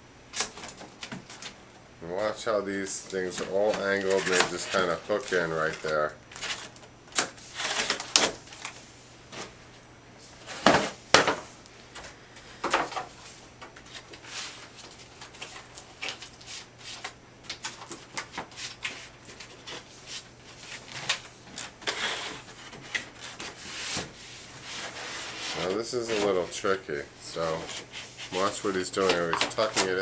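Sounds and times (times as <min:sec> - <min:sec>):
cardboard rustling and scraping: 0:02.8 - 0:11.4, 0:12.0 - 0:30.0.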